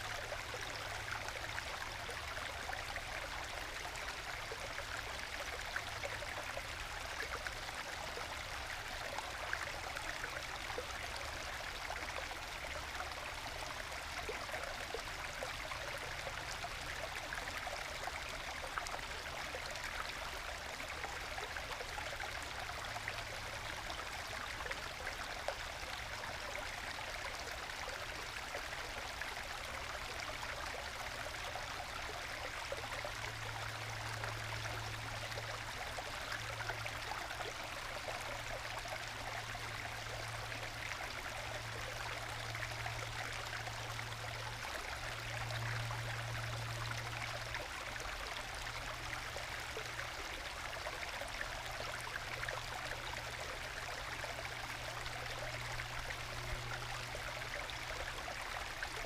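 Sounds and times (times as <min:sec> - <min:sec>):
stream trickling and gurgling: 0:00.0 - 0:59.0.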